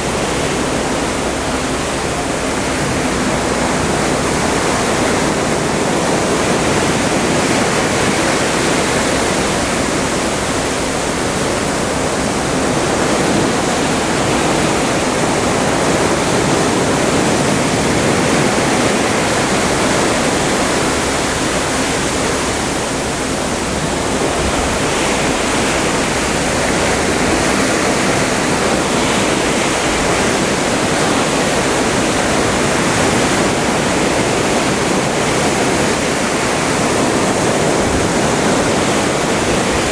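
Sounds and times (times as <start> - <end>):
water rushing along ship hull: 0.0 - 39.9.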